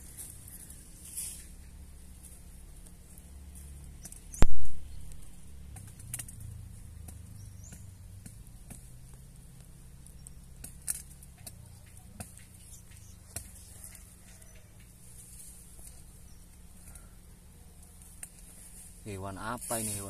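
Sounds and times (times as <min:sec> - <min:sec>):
bee swarm humming: 0:00.0 - 0:20.0.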